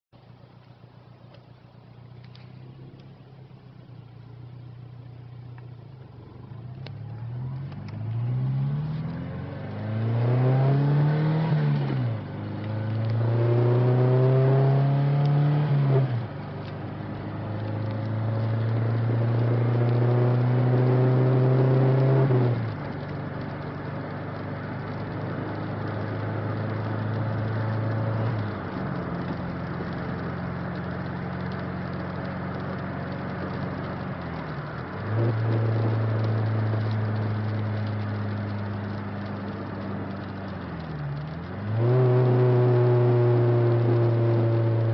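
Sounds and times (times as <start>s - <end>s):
car engine accelerating: 0.2s - 44.9s.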